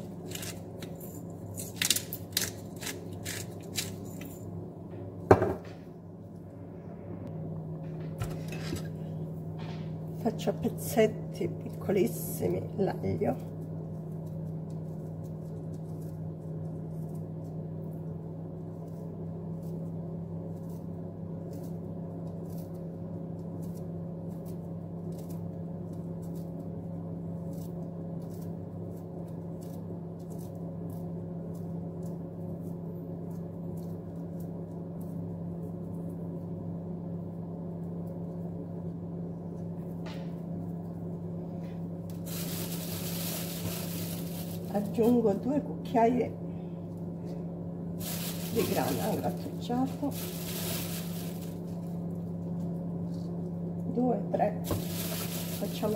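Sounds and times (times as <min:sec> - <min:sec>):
kitchen appliance hum: 0:00.0 - 0:55.9.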